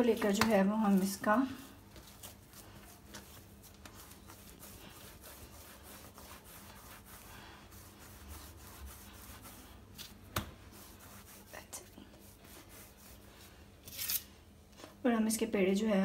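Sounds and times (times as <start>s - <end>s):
hands rubbing dough: 0.0s - 13.8s.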